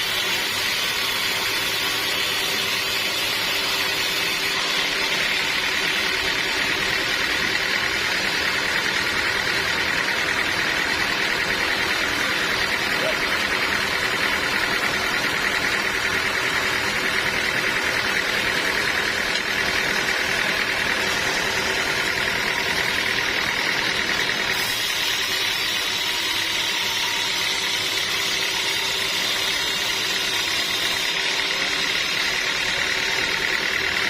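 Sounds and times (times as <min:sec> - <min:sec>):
sawmill machinery whirring: 0:00.0 - 0:34.0.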